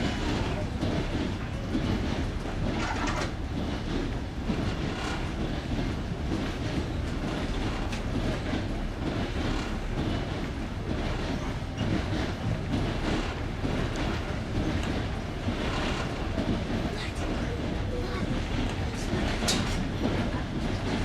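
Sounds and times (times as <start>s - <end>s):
train wheels rumbling on track: 0.0s - 21.0s
wheels clacking on rail joints: 0.0s - 21.0s.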